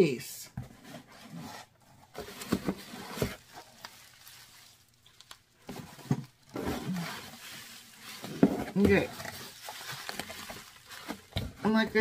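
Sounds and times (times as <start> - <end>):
packaging crinkling: 2.1 - 12.0.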